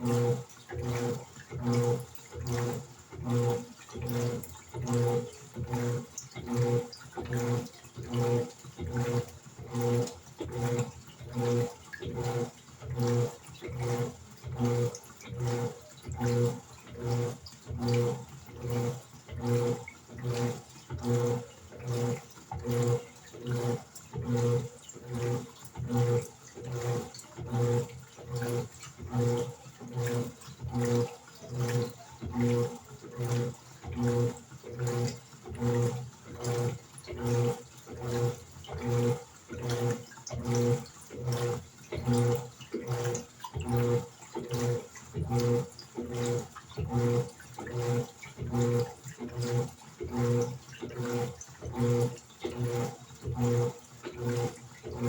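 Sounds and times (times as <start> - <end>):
washing machine motor pulsing hum: 0.0 - 55.0.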